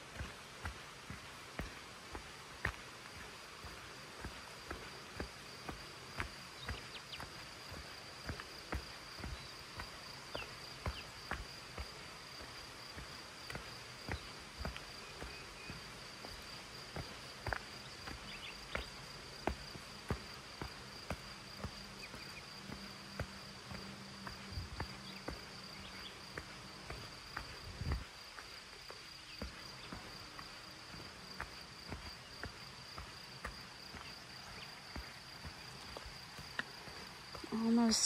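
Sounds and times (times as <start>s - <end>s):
footsteps on dirt trail: 0.0s - 38.0s.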